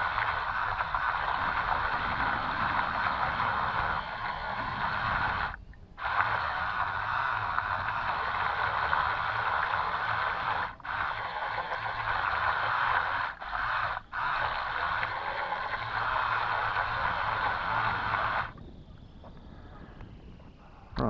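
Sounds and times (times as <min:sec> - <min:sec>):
toy boat electric motors: 0:00.0 - 0:18.6
propeller churning water: 0:00.0 - 0:20.4.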